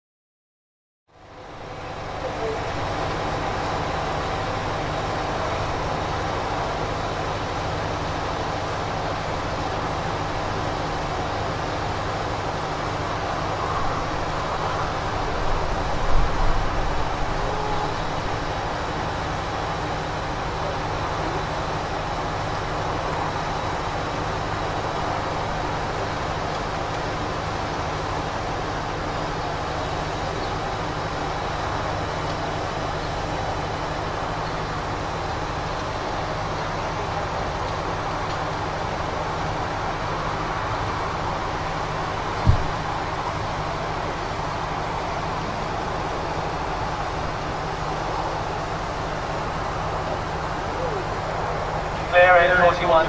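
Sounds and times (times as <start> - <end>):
rumbling hissing outdoor noise: 1.1 - 53.0.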